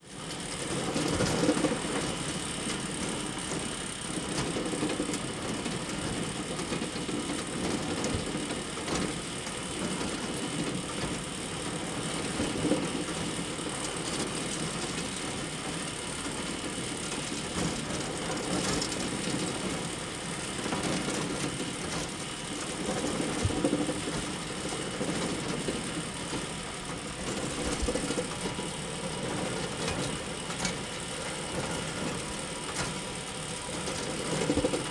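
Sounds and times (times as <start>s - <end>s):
hay bale elevator clattering: 0.3s - 34.9s.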